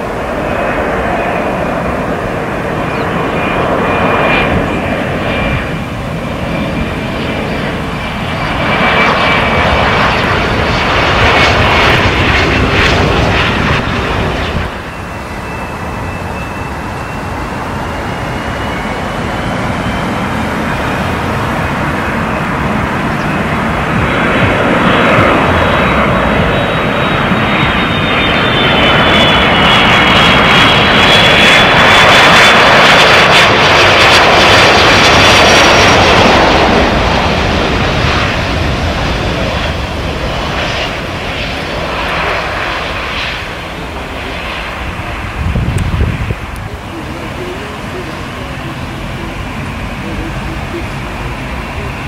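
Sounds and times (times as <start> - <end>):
jet engines roaring with whine: 0.0 - 52.0.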